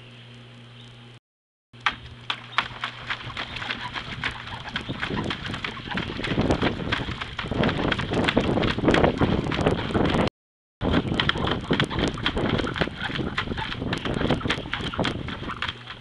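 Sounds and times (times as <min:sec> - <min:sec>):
puppy splashing in water: 0:01.8 - 0:10.2, 0:10.9 - 0:16.0.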